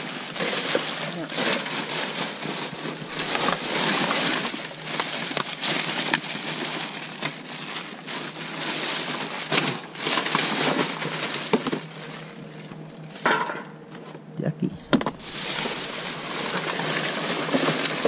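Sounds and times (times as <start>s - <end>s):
plastic bags rustling: 0.0s - 14.1s, 14.8s - 18.0s.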